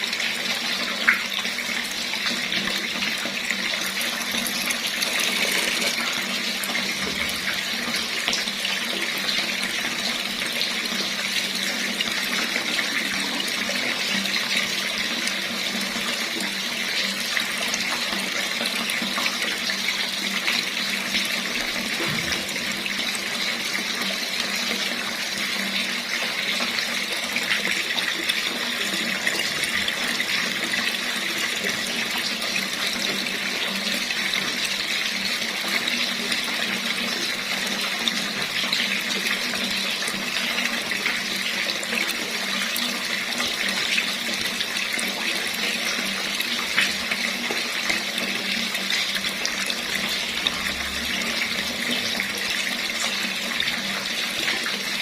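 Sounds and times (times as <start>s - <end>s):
water running from a tap: 0.0s - 55.0s.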